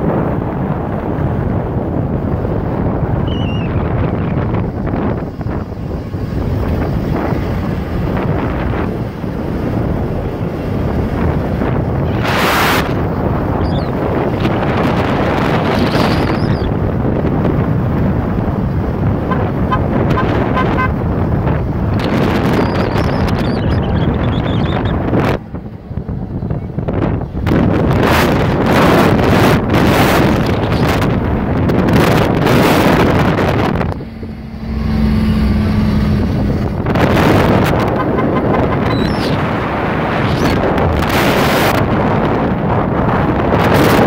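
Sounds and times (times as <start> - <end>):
engine and tyres rumbling: 0.0 - 44.0
wind buffeting microphone: 0.0 - 44.0.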